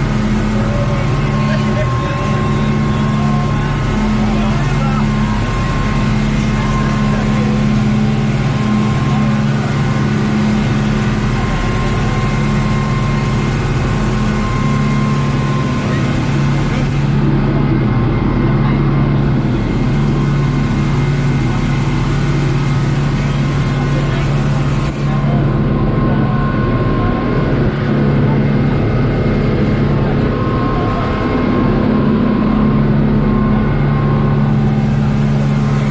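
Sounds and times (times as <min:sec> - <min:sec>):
speedboat engines running: 0:00.0 - 0:35.9.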